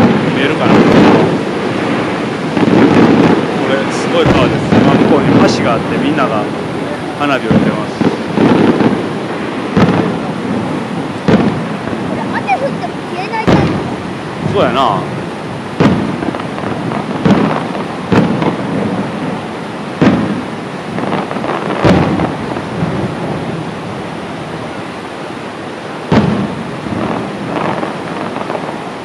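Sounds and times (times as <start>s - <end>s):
fireworks booming with echo: 0.0s - 29.0s
steady hiss: 0.0s - 29.0s.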